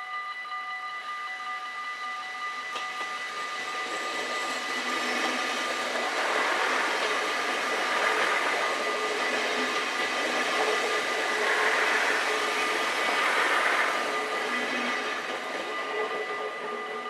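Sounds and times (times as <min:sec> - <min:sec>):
level crossing warning bell: 0:00.0 - 0:17.0
diesel train passing: 0:01.8 - 0:17.0.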